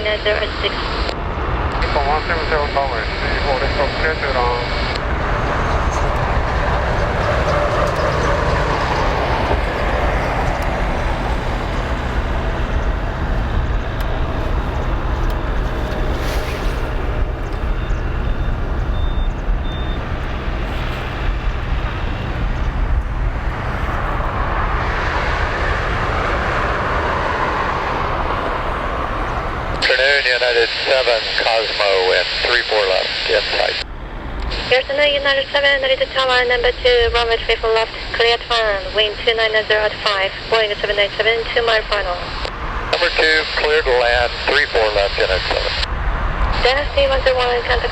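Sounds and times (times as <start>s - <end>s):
jet engines roaring at takeoff: 0.0s - 47.9s.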